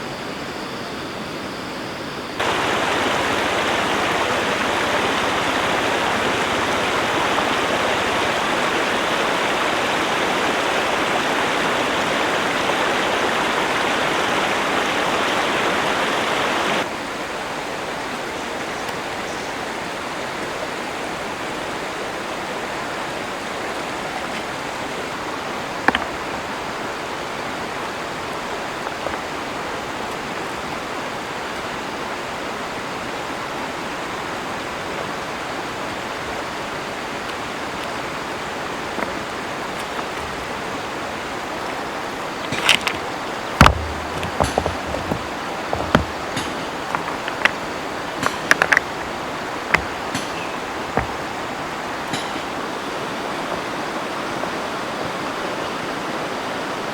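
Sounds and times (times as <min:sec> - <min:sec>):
river water flowing: 0:02.4 - 0:56.9.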